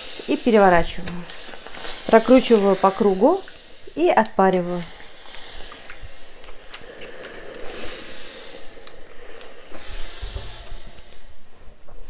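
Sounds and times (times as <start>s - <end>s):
steam iron hissing: 0.0s - 12.0s.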